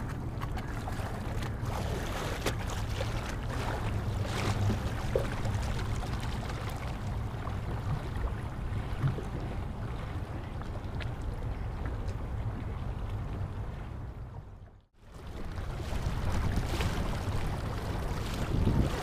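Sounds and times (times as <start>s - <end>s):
small waves lapping and splashing: 0.0s - 19.0s.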